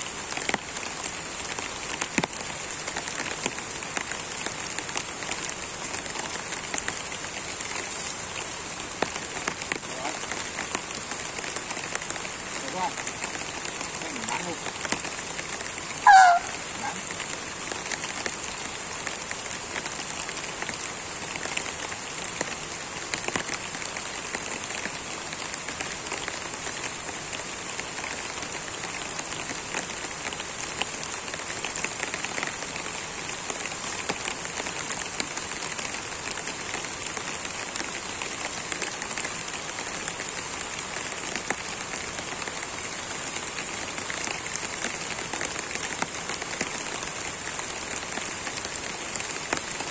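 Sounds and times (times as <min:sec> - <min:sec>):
rain falling on leaves: 0:00.0 - 0:49.9.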